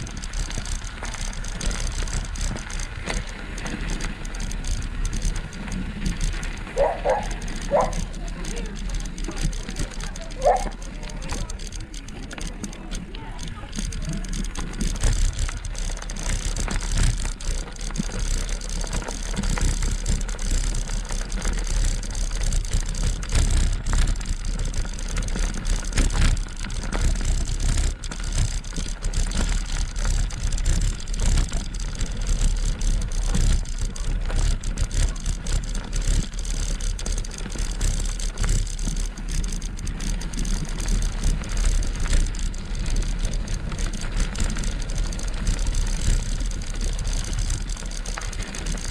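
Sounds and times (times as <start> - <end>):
bike knocks and rattles: 0.0 - 48.9
low rumble and road noise: 0.0 - 48.9.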